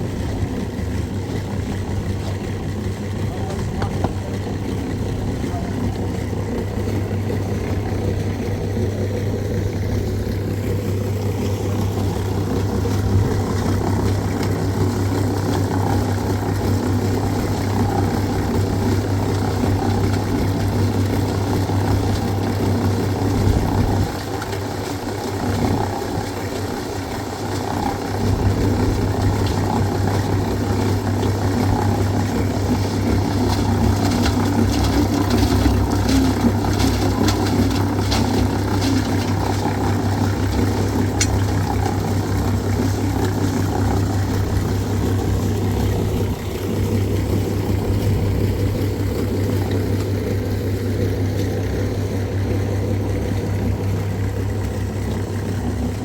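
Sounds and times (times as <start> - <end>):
engine running with deep hum: 0.0 - 56.0.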